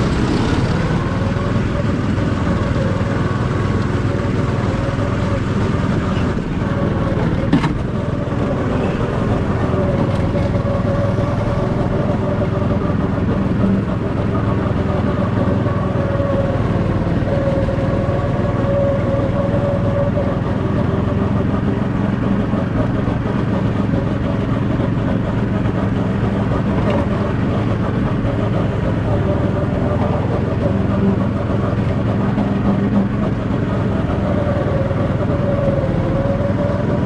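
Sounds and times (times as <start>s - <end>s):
go-kart engine running: 0.0s - 37.0s.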